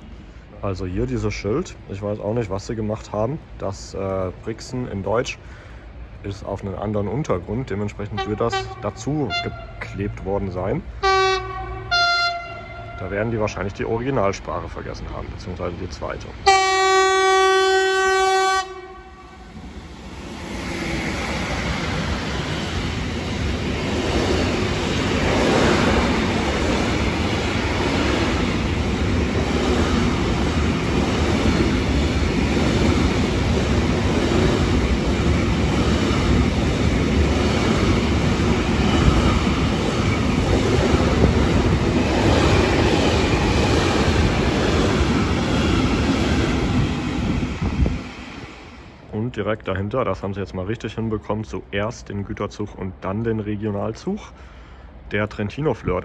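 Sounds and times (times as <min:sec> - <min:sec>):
freight train rumbling over rails: 0:00.0 - 0:56.0.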